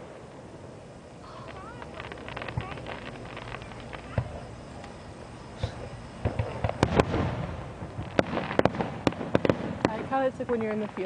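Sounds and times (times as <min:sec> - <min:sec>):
fireworks bangs: 0:00.0 - 0:11.0
fireworks cracks and pops: 0:01.2 - 0:11.0.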